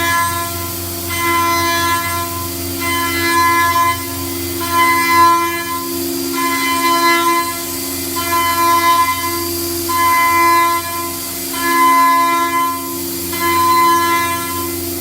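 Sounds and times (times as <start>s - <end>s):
milling spindle whine: 0.0s - 15.0s.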